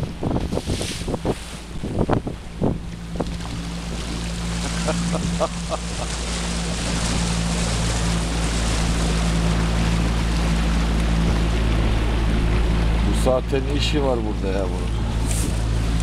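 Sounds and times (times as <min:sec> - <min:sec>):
boat engine running: 0:00.0 - 0:16.0
water noise: 0:00.0 - 0:16.0
wind: 0:00.0 - 0:16.0.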